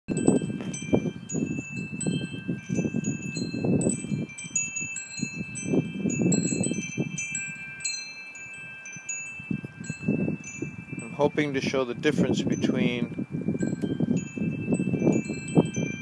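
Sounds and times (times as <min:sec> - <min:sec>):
metal chimes ringing: 0:00.1 - 0:16.0.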